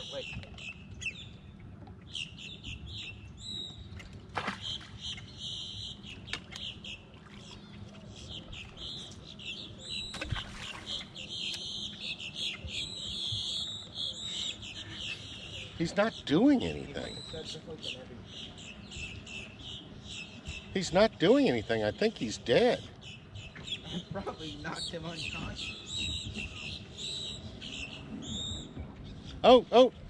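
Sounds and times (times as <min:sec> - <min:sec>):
small birds chirping: 0:04.6 - 0:29.9.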